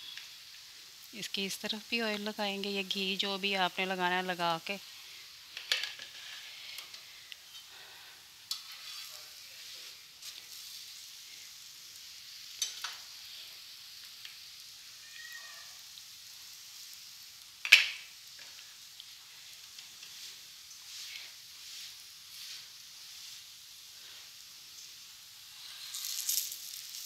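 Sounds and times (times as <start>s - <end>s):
flatbread sizzling on pan: 0.0s - 27.0s.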